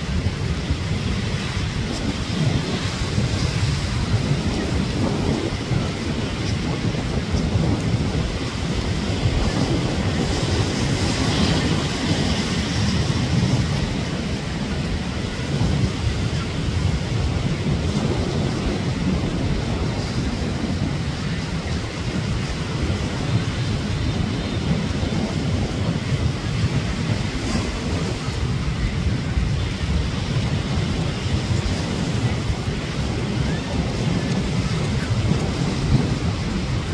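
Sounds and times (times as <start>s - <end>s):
ocean surf rumbling: 0.0s - 36.9s
wave washing in: 0.0s - 36.9s
wind buffeting microphone: 0.0s - 36.9s.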